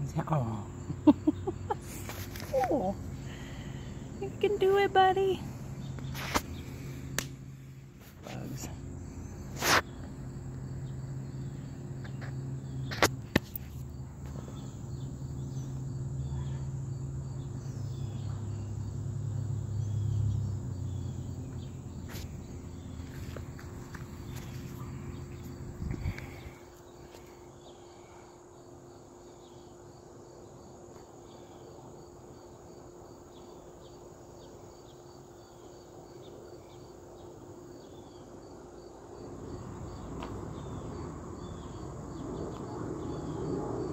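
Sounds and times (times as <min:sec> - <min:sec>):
faint insect chirps: 0:00.0 - 0:43.9
insect chorus trilling: 0:00.0 - 0:43.9.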